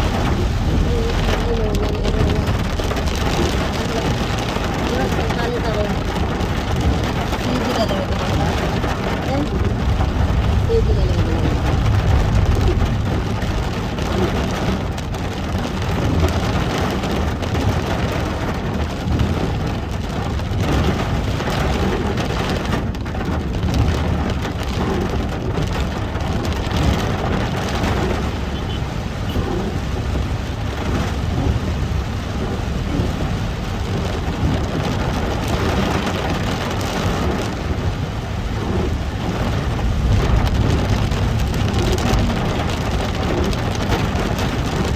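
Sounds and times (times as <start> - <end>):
car rumble and tyres on wet road: 0.0 - 44.9
heavy rain on a car: 0.0 - 44.9.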